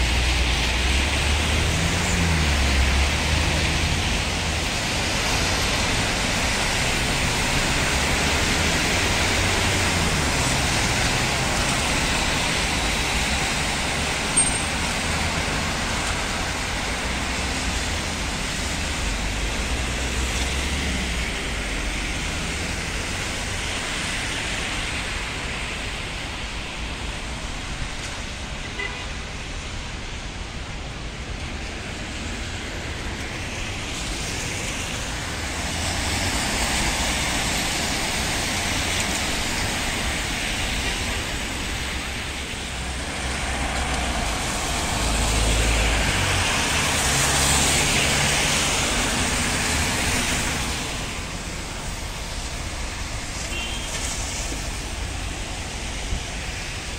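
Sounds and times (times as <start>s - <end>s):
traffic on wet road: 0.0s - 56.9s.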